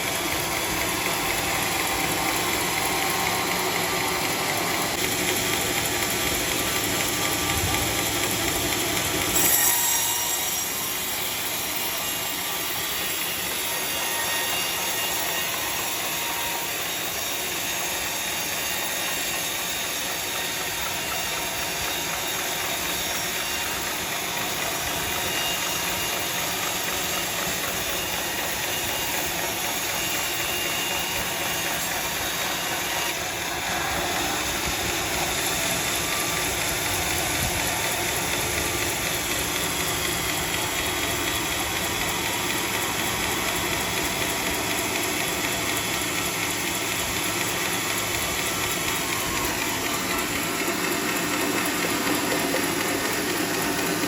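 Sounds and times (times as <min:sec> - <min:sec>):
sawmill saw cutting wood: 0:00.0 - 0:54.0.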